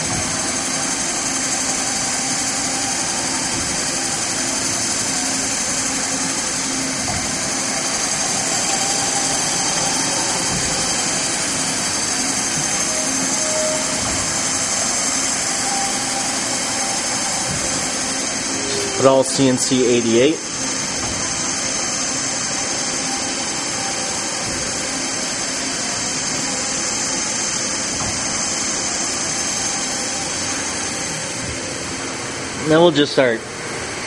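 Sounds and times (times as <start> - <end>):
machining center whirring: 0.0 - 34.0.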